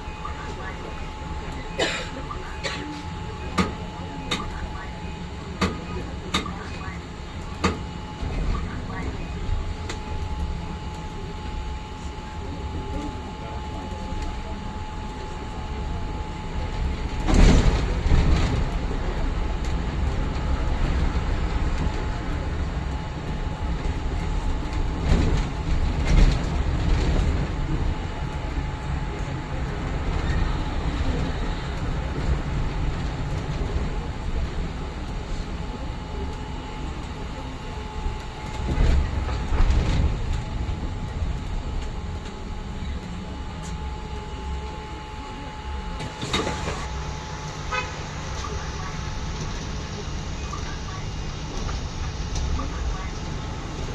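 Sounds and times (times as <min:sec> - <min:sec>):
bus body rattling: 0:00.0 - 0:53.9
bus engine and road rumble: 0:00.0 - 0:53.9.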